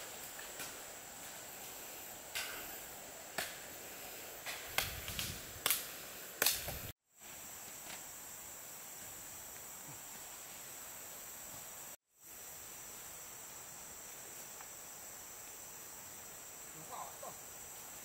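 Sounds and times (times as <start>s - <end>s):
insects hissing chorus: 0.0s - 18.0s.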